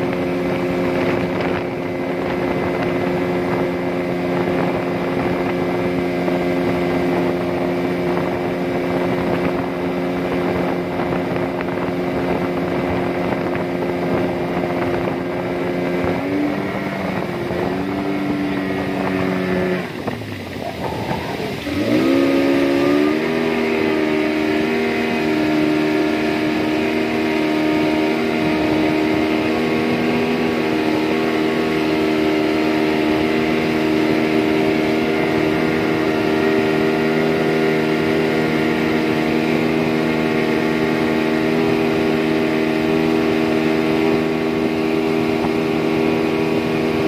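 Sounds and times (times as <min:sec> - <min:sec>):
speedboat engine at high revs: 0:00.0 - 0:47.0.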